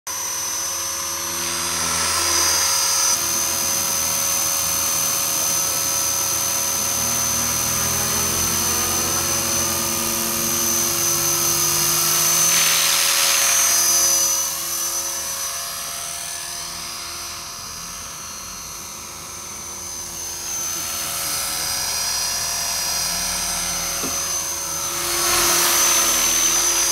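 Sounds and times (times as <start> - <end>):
rc helicopter motor whine: 0.1 - 26.9.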